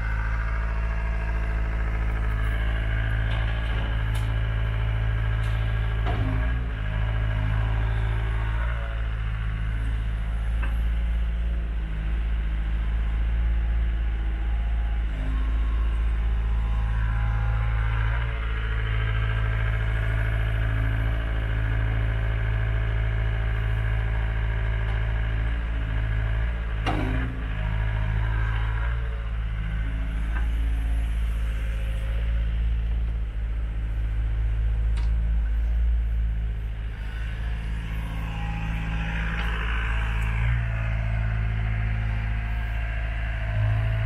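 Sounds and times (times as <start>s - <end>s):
excavator diesel engine running: 0.0s - 44.0s
excavator digging soil: 0.0s - 44.0s.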